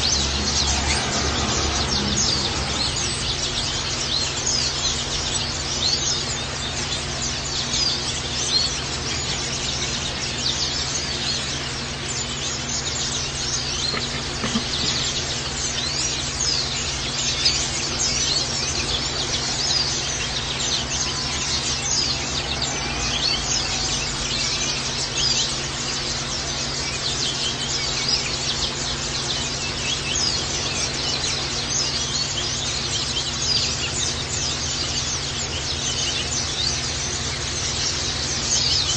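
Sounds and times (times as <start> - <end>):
flock of birds twittering: 0.0 - 38.9.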